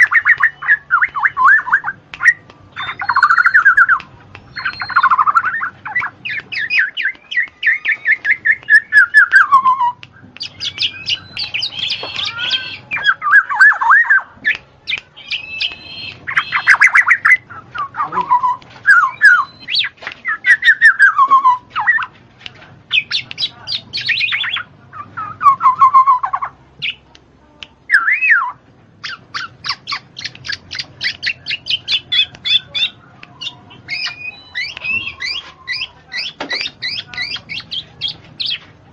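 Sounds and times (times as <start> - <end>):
birds chirping and squawking: 0.0 - 22.1, 22.9 - 27.0, 27.9 - 38.8.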